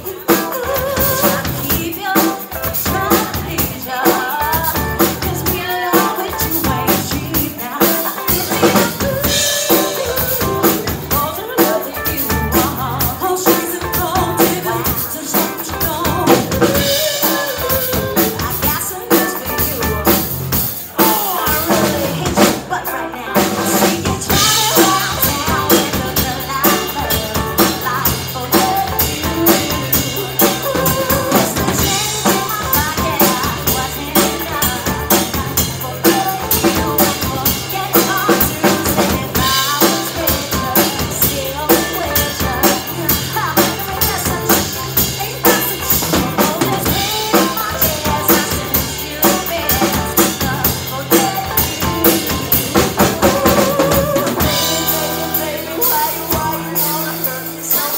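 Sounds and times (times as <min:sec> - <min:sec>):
drum kit beat: 0:00.0 - 0:57.9
electric bass guitar: 0:00.0 - 0:57.9
electric guitar: 0:00.0 - 0:57.9.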